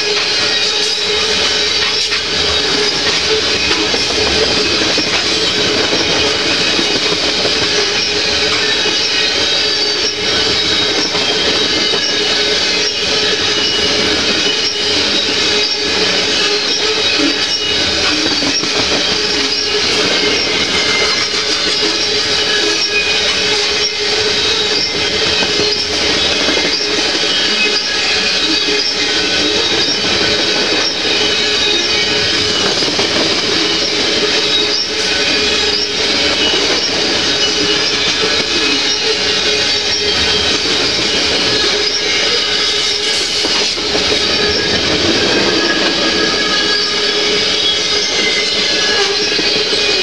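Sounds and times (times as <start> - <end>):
high ringing wheel whine: 0.0 - 50.0
train wheels clacking over rail joints: 0.0 - 50.0.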